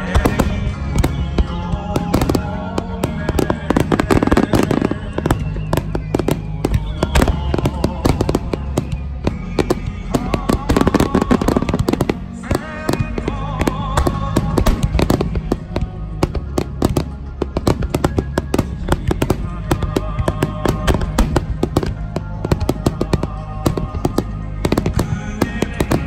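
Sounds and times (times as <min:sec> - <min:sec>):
fireworks bursting: 0:00.0 - 0:26.0
music playing: 0:00.0 - 0:26.0.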